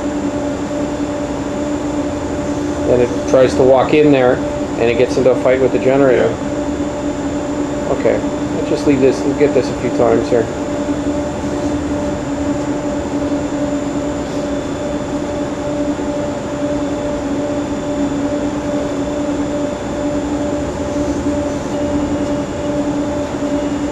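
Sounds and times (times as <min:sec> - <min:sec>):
power equipment droning: 0:00.0 - 0:23.9
two-tone hum: 0:00.0 - 0:23.9.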